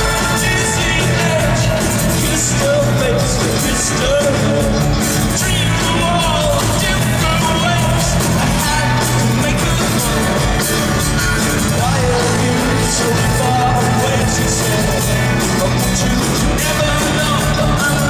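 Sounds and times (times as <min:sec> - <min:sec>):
live rock band playing: 0:00.0 - 0:18.0
man singing: 0:00.0 - 0:18.0.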